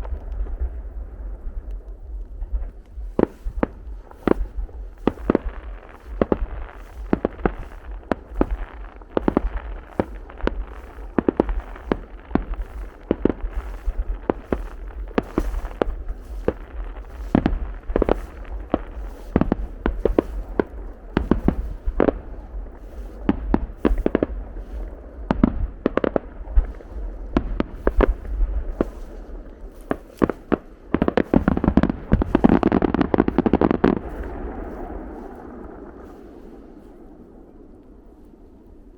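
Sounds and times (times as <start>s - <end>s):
fireworks bursting with bangs: 0.0s - 37.6s
fireworks crackle: 0.0s - 38.9s.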